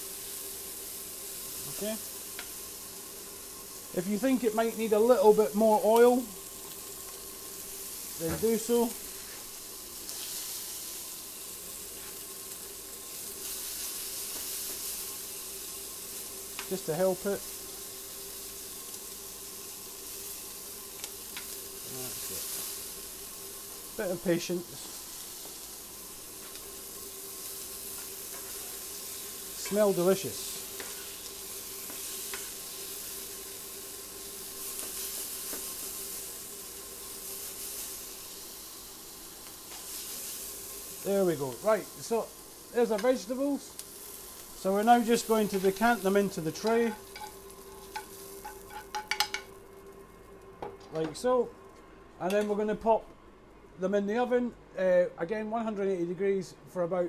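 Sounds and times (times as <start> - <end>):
vegetables and bacon sizzling in oil: 0.0 - 51.1.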